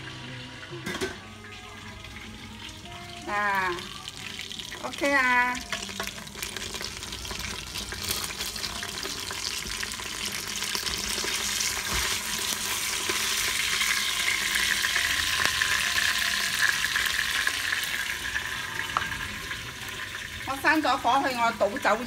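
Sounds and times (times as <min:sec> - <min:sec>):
oil sizzling and crackling: 0:00.0 - 0:22.0.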